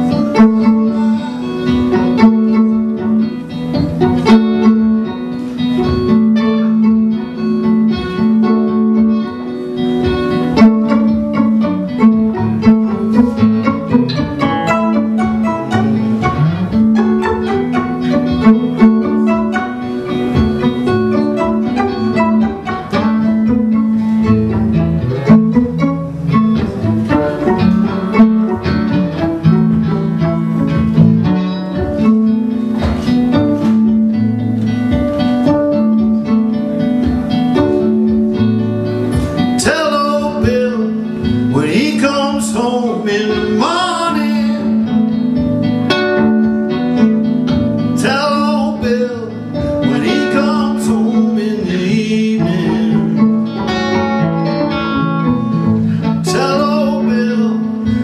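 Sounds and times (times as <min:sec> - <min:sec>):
fiddle playing: 0:00.0 - 0:58.0
resonator guitar: 0:00.0 - 0:58.0.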